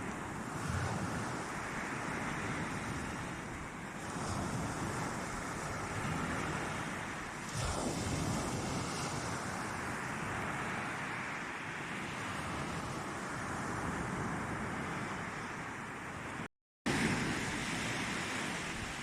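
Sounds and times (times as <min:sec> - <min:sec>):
waves washing onto shore: 0:00.0 - 0:19.0
wind on microphone: 0:00.0 - 0:19.0.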